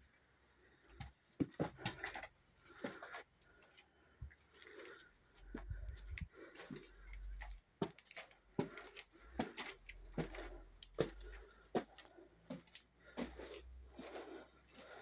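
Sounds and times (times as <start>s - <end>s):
footsteps on gritty stone: 1.0s - 3.3s, 4.6s - 15.0s.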